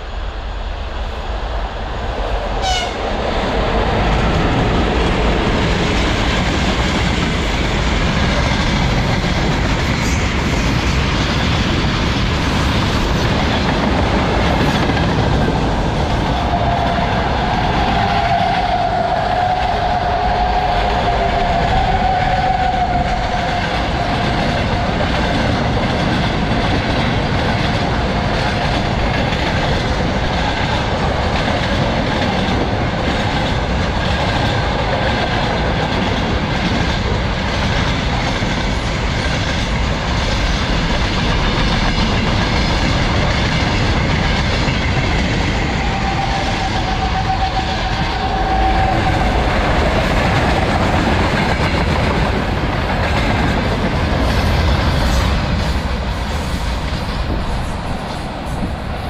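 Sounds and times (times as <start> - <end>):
freight train rumbling by: 0.0 - 59.0.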